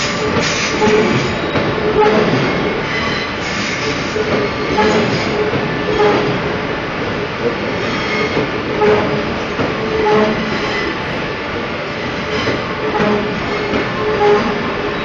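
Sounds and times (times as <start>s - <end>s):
train wheel squeals: 0.0s - 6.5s, 7.7s - 15.0s
train wheels rumbling on track: 0.0s - 15.0s.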